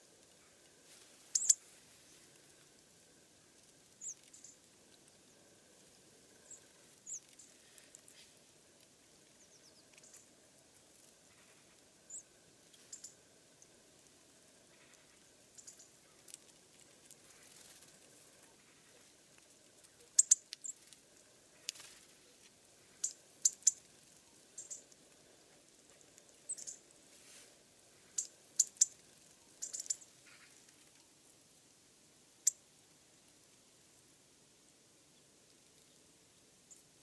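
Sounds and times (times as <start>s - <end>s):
faint hiss: 0.0s - 37.0s
small birds ticking and chipping: 0.0s - 37.0s.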